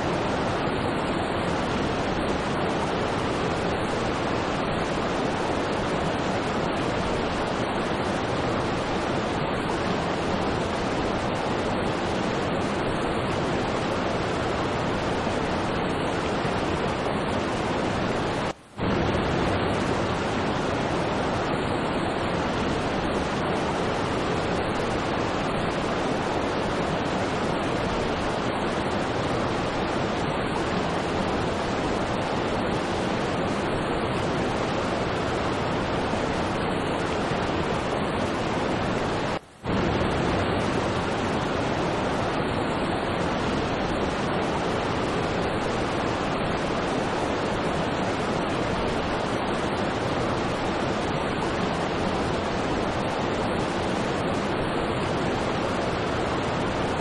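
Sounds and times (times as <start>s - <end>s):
waterfall rushing over rocks: 0.0s - 57.0s.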